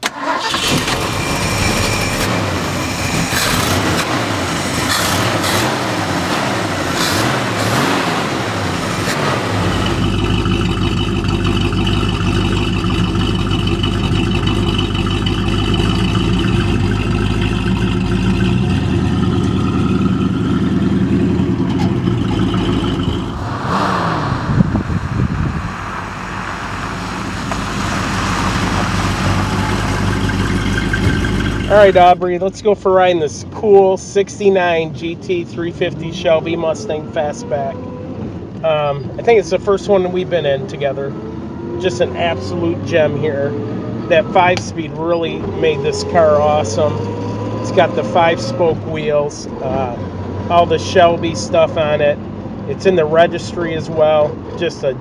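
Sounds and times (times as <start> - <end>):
car engine revving and idling: 0.0 - 55.0.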